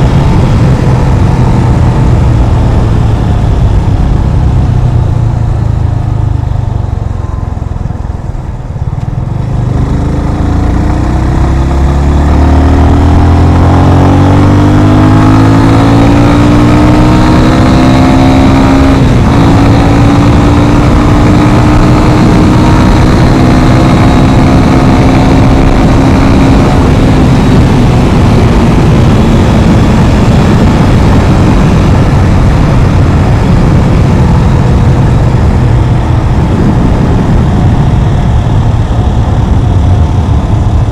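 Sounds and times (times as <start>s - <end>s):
motorcycle engine accelerating: 0.0s - 40.9s
wind and road noise: 0.0s - 40.9s.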